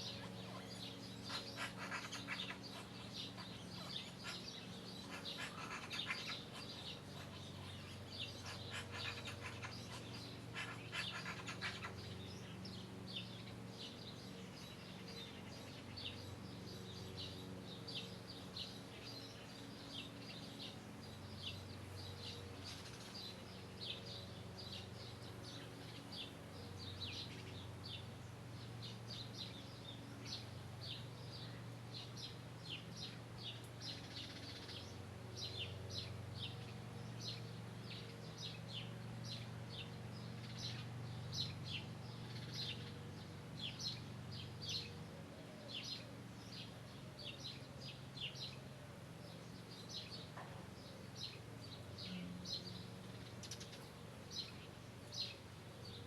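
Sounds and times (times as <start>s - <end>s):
low steady hum: 0.0s - 56.0s
small birds chirping: 0.0s - 56.0s.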